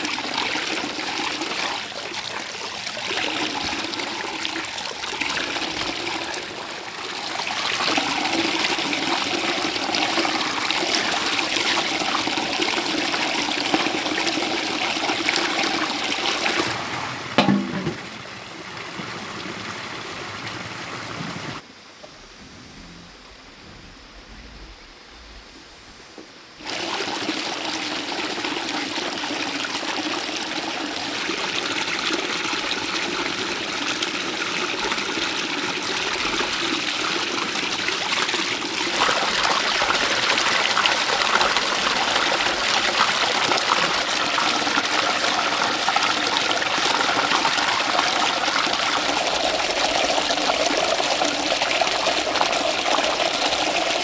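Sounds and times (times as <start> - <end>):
running water splashing: 0.0 - 21.6, 26.6 - 54.0.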